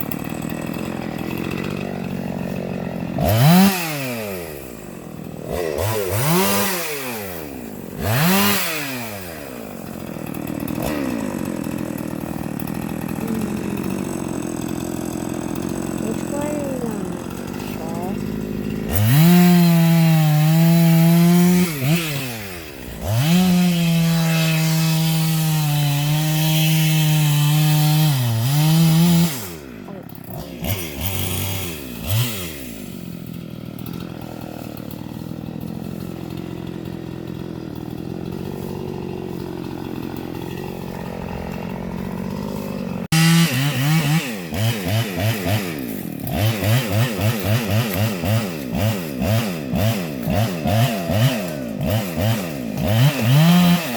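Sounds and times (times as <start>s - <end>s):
chainsaw cutting wood: 0.0s - 53.9s
chainsaw idling: 0.0s - 53.9s
chainsaw revving: 0.0s - 53.9s.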